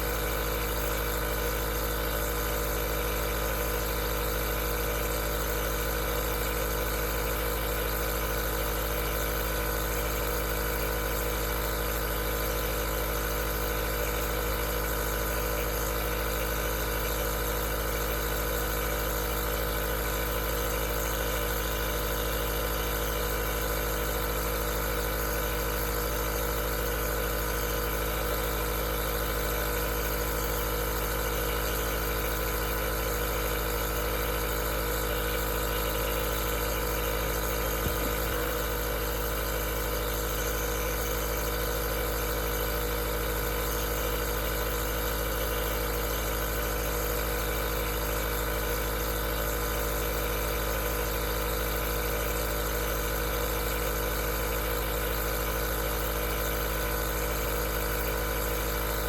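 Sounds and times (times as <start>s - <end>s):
nebulizer compressor humming: 0.0s - 59.0s.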